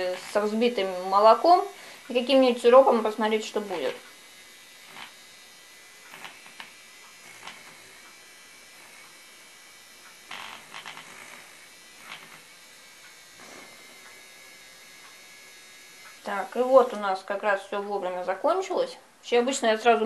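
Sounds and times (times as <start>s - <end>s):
milk frother buzzing: 0.0s - 20.0s.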